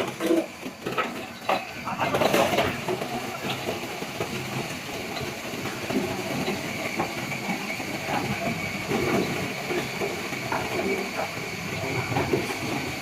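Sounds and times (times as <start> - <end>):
juice extractor machine running: 0.0 - 13.0.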